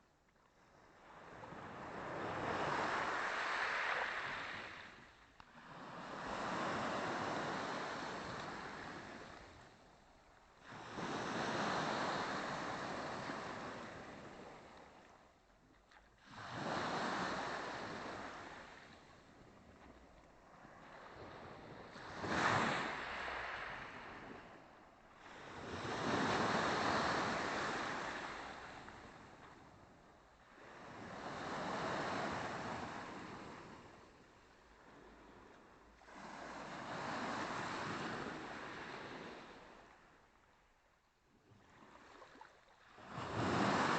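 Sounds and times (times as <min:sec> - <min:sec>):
small waves breaking on shore: 0:00.6 - 0:40.5, 0:41.5 - 0:43.9.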